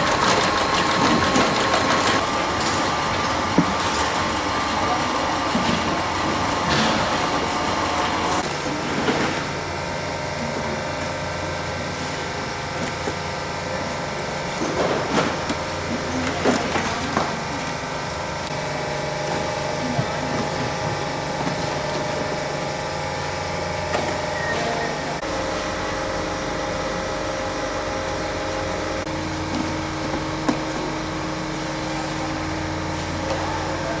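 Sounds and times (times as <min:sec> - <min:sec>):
sorting machine humming: 0:00.0 - 0:34.0.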